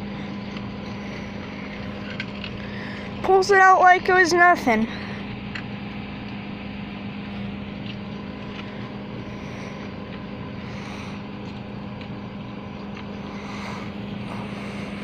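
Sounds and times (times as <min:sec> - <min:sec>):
outdoor background noise: 0:00.0 - 0:15.0
vehicle engine running steadily: 0:00.0 - 0:15.0.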